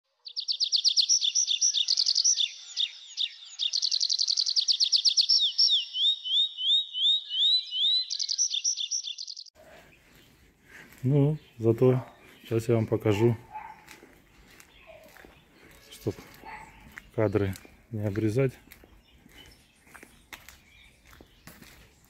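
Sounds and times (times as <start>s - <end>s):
songbird singing: 0.1s - 22.0s.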